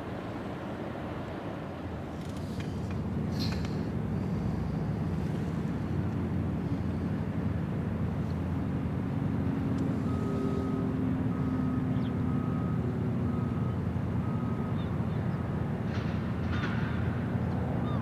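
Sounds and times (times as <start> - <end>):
low mechanical rumble: 0.0 - 16.4.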